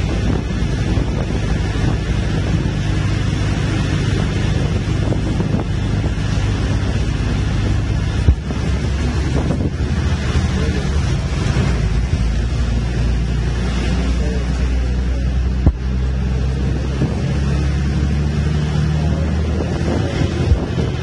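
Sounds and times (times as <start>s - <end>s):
bus engine running: 0.0s - 21.0s
road noise: 0.0s - 21.0s
wind buffeting microphone: 0.0s - 21.0s.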